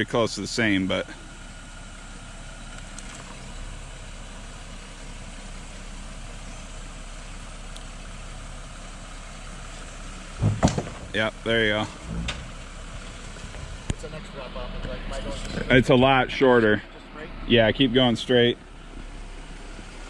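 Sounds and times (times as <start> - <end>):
engine running at low revs: 0.0 - 20.0.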